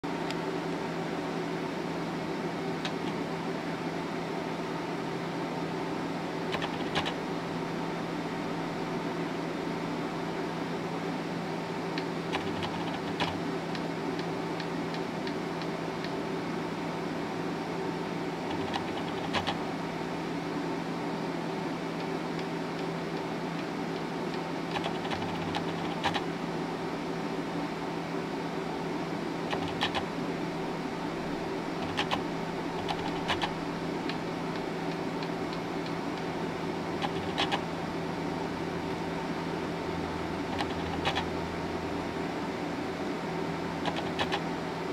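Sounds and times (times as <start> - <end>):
test equipment whirring and humming: 0.0 - 44.9.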